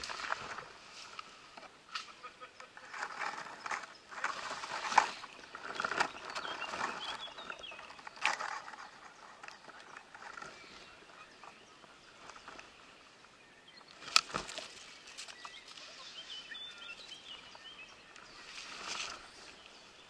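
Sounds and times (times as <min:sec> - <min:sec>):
leaves and twigs rustling: 0:00.0 - 0:20.0.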